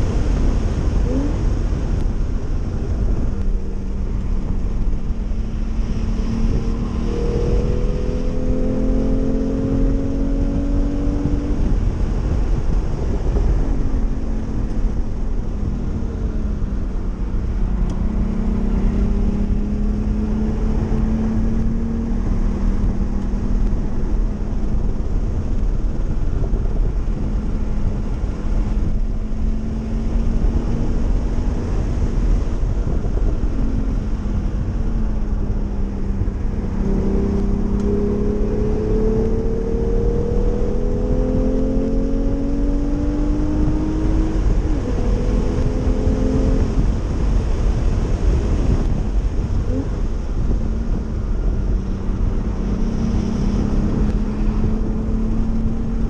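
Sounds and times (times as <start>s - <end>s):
car engine revving: 0.0s - 56.0s
tyre and wind rumble: 0.0s - 56.0s.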